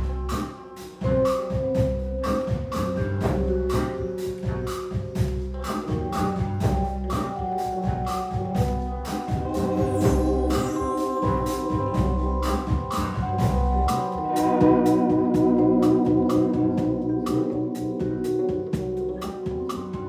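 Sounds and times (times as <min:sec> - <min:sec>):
drum kit beat: 0:00.0 - 0:20.0
live band playing: 0:00.0 - 0:20.0.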